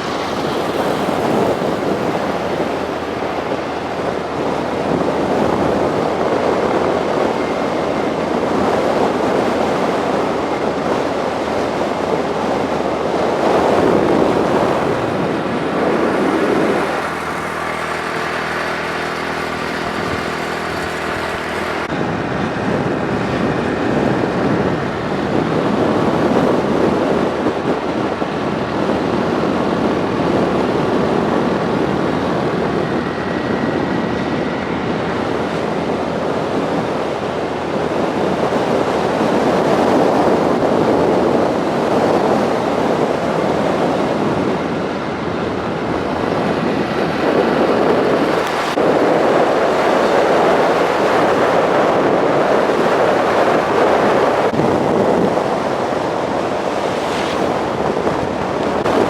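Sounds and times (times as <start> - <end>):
motorcycle road and engine noise: 0.0 - 59.0
steady engine hum: 0.0 - 59.0
wind rushing over microphone: 0.0 - 59.0.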